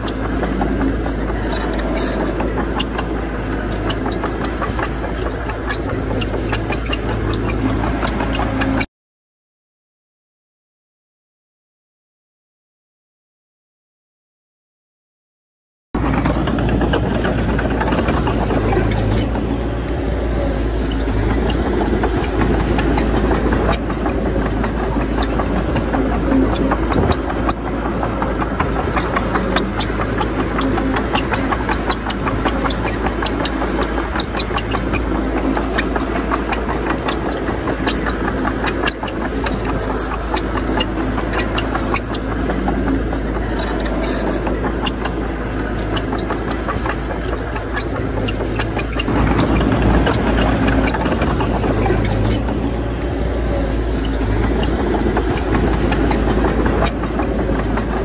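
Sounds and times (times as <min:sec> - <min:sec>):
bulldozer diesel engine running: 0:00.0 - 0:08.9, 0:16.0 - 0:58.0
rapid clatter of knocks: 0:00.0 - 0:08.9, 0:16.0 - 0:58.0.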